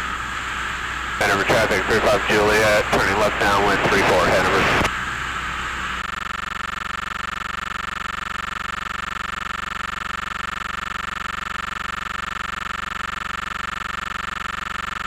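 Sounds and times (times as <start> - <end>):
light aircraft engine drone: 0.0 - 15.0.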